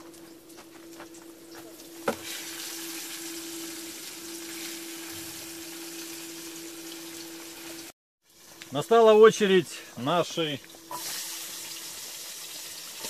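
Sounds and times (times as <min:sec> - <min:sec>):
fish sizzling in hot oil: 0:00.0 - 0:08.6, 0:10.4 - 0:13.0.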